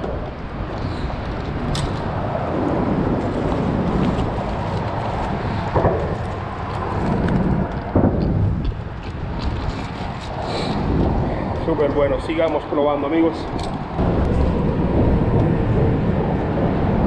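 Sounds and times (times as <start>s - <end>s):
traffic rumble overhead: 0.0s - 17.0s.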